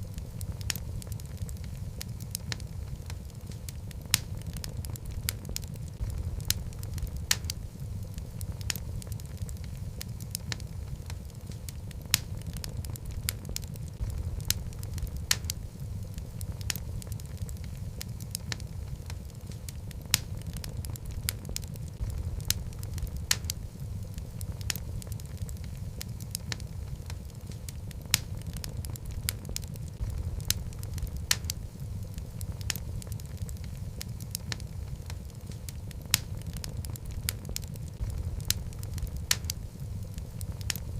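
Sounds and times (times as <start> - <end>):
logs crackling and popping: 0.0 - 40.9
low rumble of flame: 0.0 - 40.9.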